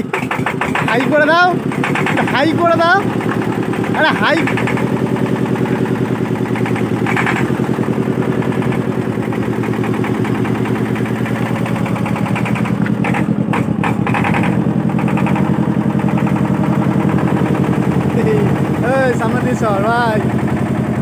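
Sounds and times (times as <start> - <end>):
motorboat engine chugging: 0.0 - 21.0.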